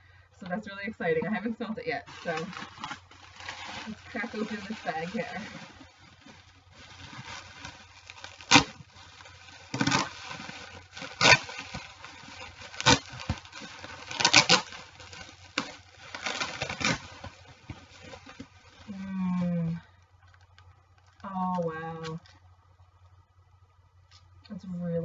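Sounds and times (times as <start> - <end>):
plastic packaging crinkling: 1.1 - 23.2.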